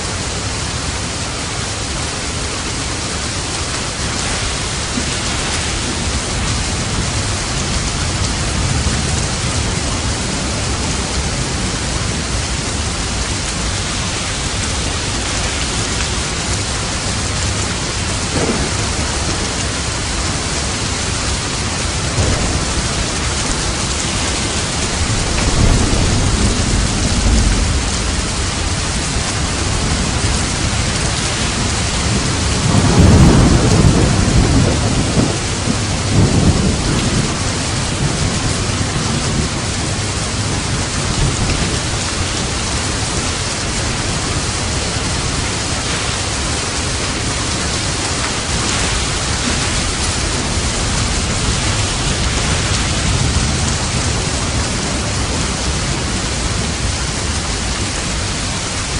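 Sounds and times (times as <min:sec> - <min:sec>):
heavy rain: 0:00.0 - 0:58.9
thunder rolling: 0:02.8 - 0:58.9.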